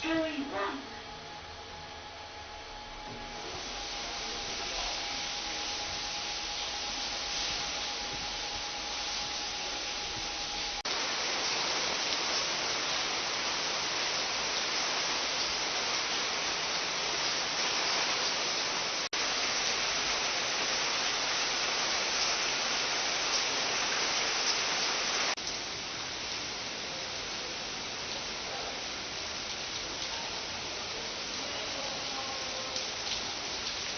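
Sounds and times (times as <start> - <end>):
pouring water hiss: 3.4 - 33.9.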